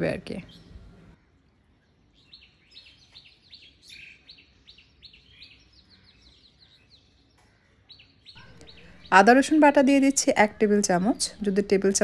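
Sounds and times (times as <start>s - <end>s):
faint bird chirps: 0.4s - 11.8s.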